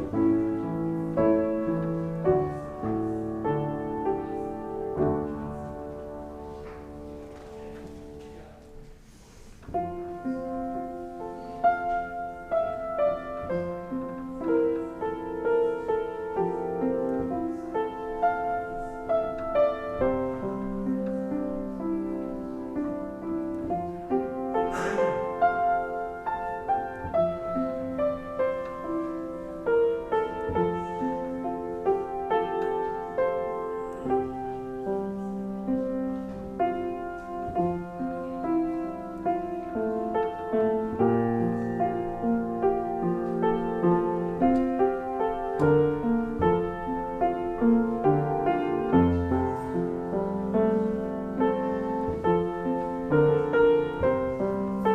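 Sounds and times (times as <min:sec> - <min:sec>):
slow piano music: 0:00.0 - 0:54.9.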